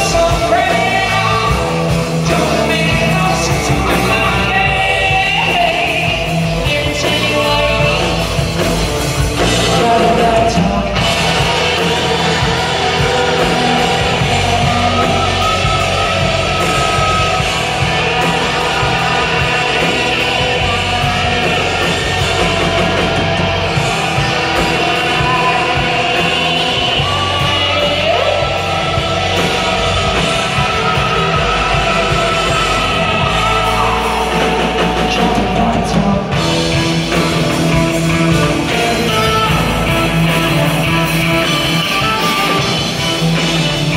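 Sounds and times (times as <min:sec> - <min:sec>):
bass guitar: 0:00.0 - 0:43.9
drum kit: 0:00.0 - 0:43.9
electric guitars: 0:00.0 - 0:43.9
person singing: 0:00.0 - 0:43.9.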